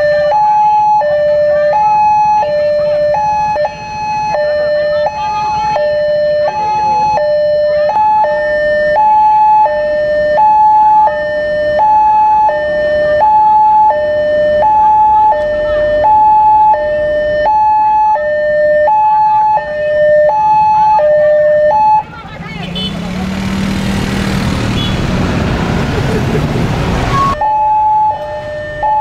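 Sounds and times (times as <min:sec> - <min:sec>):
level crossing two-tone alarm: 0:00.0 - 0:22.1, 0:27.1 - 0:29.0.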